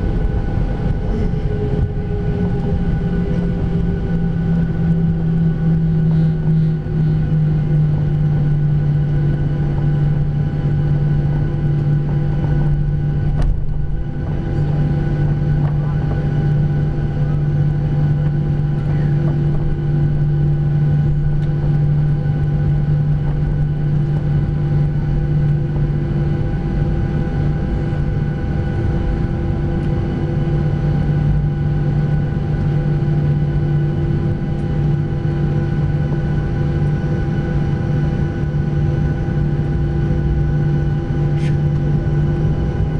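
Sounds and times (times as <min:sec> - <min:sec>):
jet engines heard in cabin: 0:00.0 - 0:42.9.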